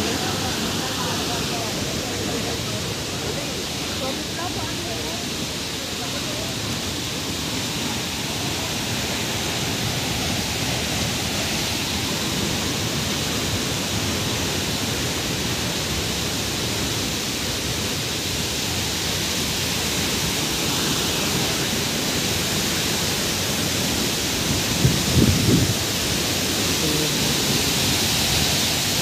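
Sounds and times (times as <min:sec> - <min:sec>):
water rushing over rock: 0:00.0 - 0:29.0.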